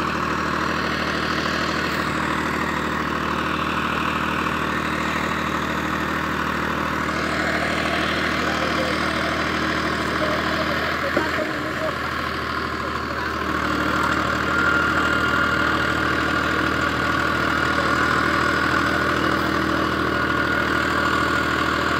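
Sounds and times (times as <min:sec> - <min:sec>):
diesel tractor engine straining: 0:00.0 - 0:21.9.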